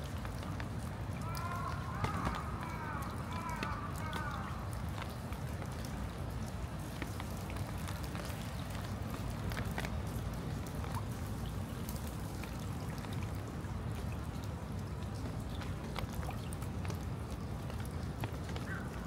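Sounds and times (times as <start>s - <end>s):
rain rushing: 0.0s - 19.0s
raindrops ticking: 0.0s - 19.0s.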